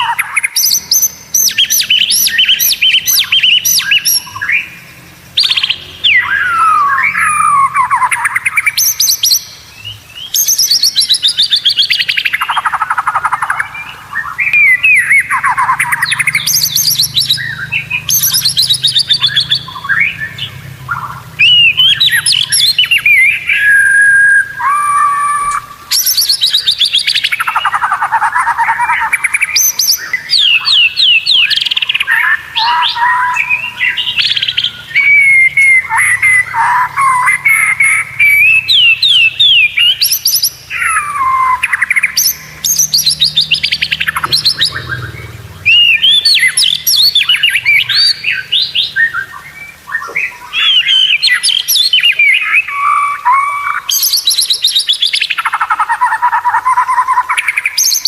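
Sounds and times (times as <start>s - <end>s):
songbird singing trills and whistles: 0.0s - 58.0s.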